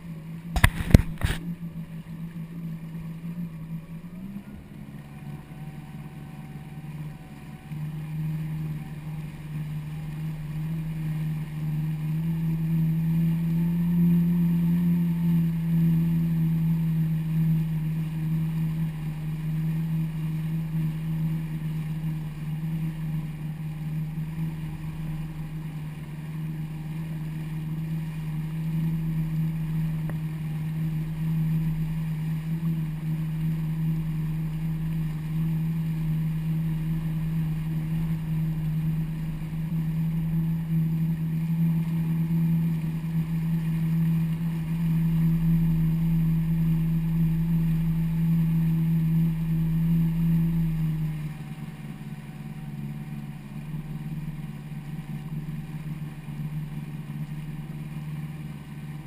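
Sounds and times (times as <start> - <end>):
jet ski engine running: 0.0 - 59.0.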